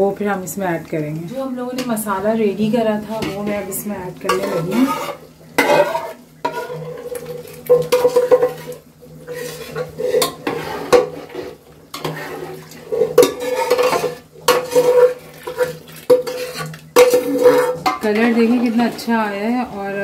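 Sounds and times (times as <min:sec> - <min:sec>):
spoon scraping metal pot: 0:03.1 - 0:19.9.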